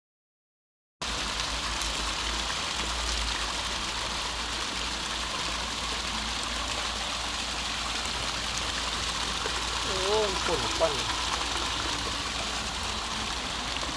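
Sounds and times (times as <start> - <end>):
fountain water splashing: 1.0 - 13.9.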